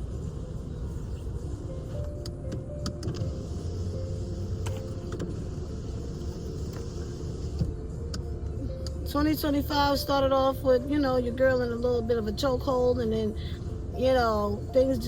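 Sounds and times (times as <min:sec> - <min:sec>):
faint melody: 0:00.0 - 0:15.0
low rumble of car interior: 0:00.0 - 0:15.0.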